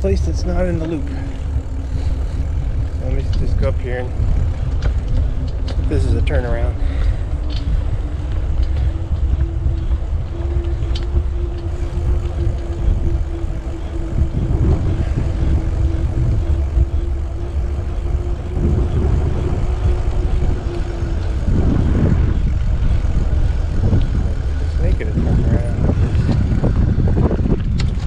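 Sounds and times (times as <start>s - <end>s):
steady droning hum: 0.0s - 28.0s
wind rumbling on microphone: 0.0s - 28.0s.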